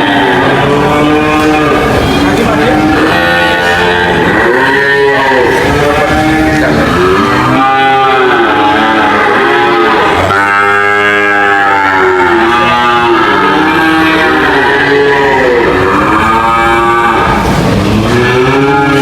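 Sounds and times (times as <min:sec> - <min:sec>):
cattle mooing: 0:00.0 - 0:19.0.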